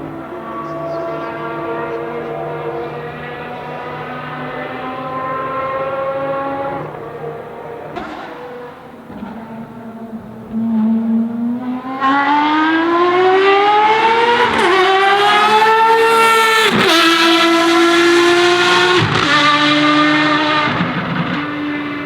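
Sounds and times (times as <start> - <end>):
car engine accelerating with upshifts: 0.0 - 22.0.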